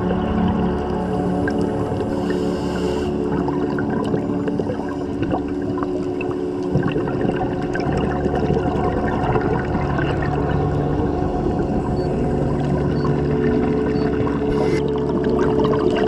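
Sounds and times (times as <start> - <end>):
steady low hum: 0.0 - 16.0
underwater water noise: 0.0 - 16.0.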